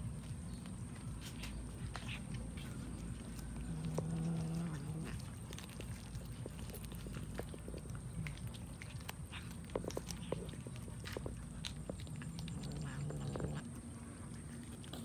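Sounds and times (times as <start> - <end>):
cat chewing: 0.0 - 15.0.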